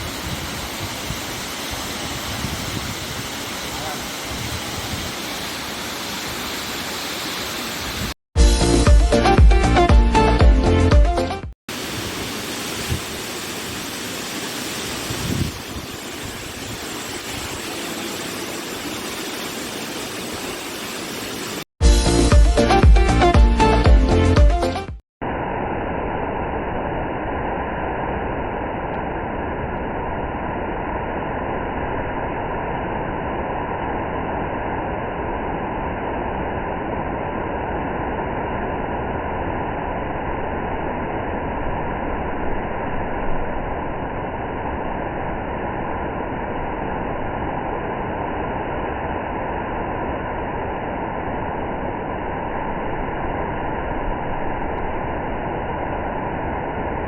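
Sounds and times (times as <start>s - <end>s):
steady rushing noise: 0.0s - 10.4s, 11.7s - 22.2s, 25.2s - 57.0s.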